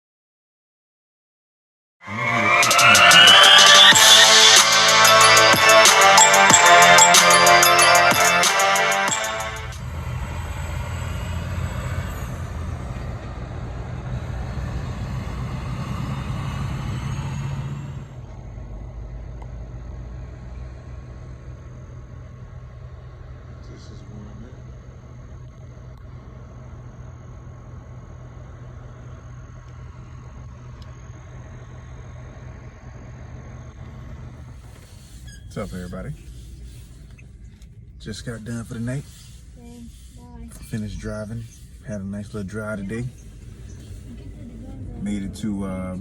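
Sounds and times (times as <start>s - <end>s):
diesel truck engine rumbling: 2.0s - 46.0s.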